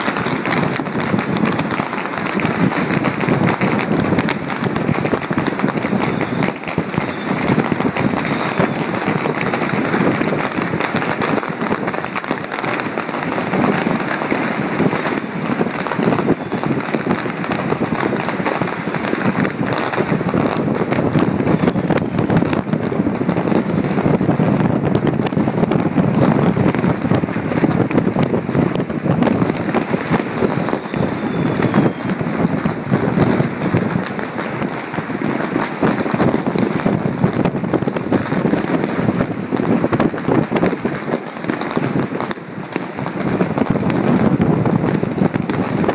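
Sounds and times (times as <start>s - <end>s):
fireworks and firecrackers crackling: 0.0s - 45.9s.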